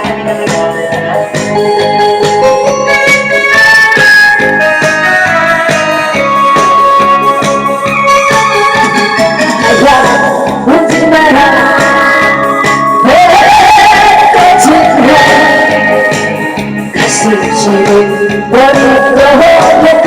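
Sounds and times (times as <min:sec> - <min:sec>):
person singing: 0:00.0 - 0:07.6, 0:09.4 - 0:20.0
electronic organ melody: 0:00.0 - 0:20.0
steady beat: 0:00.0 - 0:20.0.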